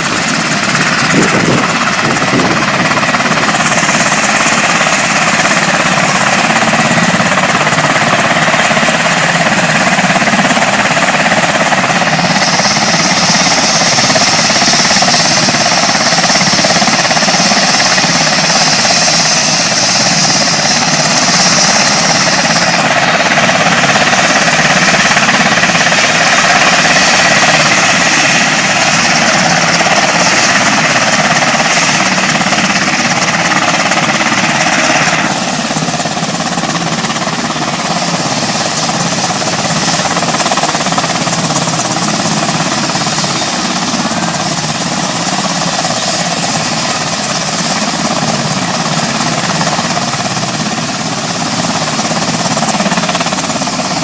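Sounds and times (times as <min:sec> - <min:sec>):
aircraft engine throbbing: 0:00.0 - 0:54.0.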